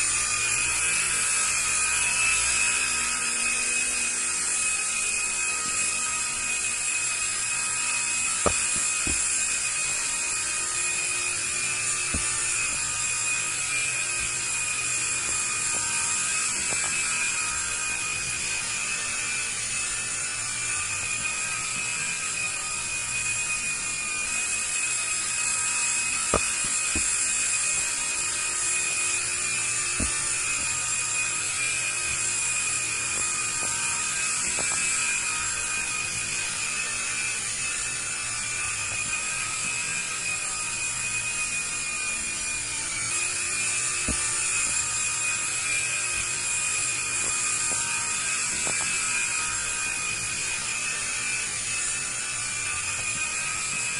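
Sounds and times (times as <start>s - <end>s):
toy helicopter motor whine: 0.0s - 53.9s.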